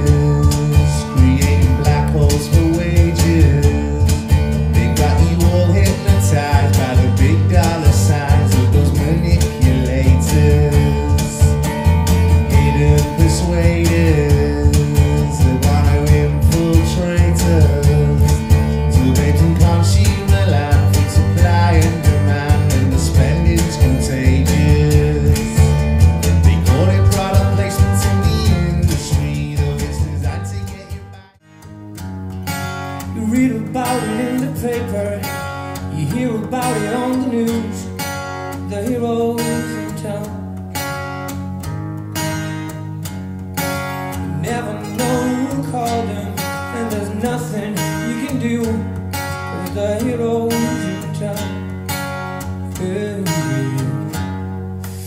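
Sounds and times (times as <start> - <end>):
music with heavy bass and guitar: 0.0 - 55.0.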